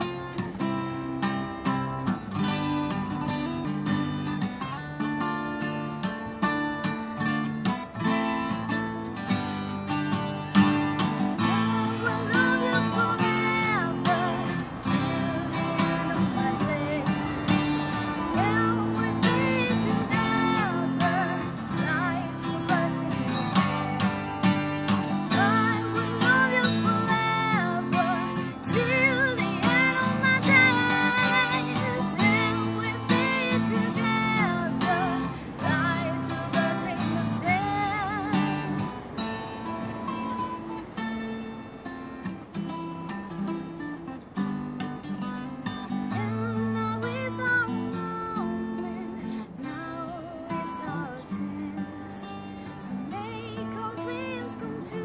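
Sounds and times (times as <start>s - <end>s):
woman singing: 0.0s - 40.8s, 45.2s - 55.0s
acoustic guitar strumming chords: 0.0s - 55.0s.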